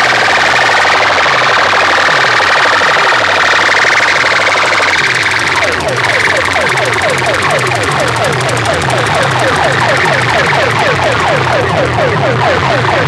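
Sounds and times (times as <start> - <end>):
pulsing bass beat: 0.0 - 13.0
siren-like synth effect: 0.0 - 13.0.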